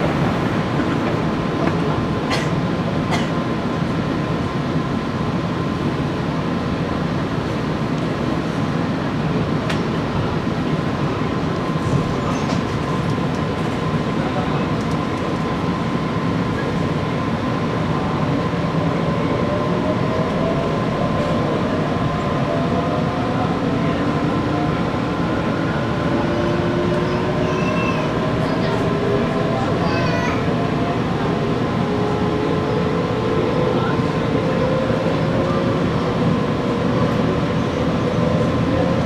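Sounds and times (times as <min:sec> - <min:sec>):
train running noise: 0:00.0 - 0:39.0.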